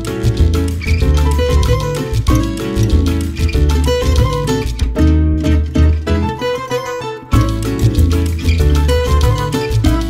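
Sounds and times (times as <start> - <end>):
music with sharply struck notes: 0.0 - 10.0.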